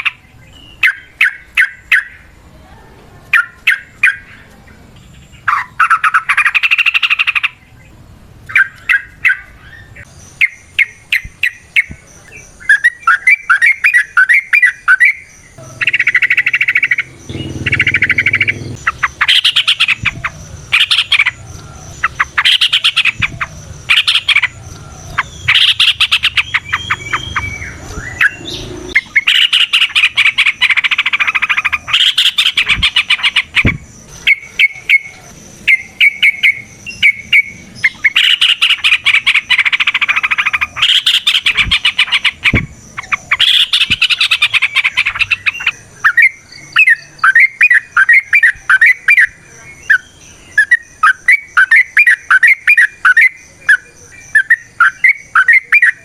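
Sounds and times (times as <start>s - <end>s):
birds rattling chatter: 0.0s - 56.0s
bird down-slurred whistled notes: 8.5s - 56.0s.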